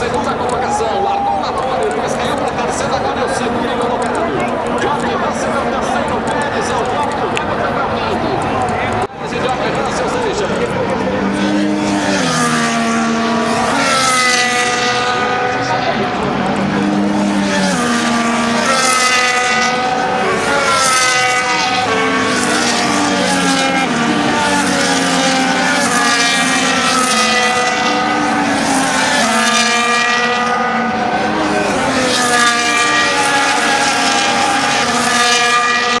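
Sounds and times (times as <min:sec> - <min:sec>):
racing cars whining past: 0:00.0 - 0:36.0.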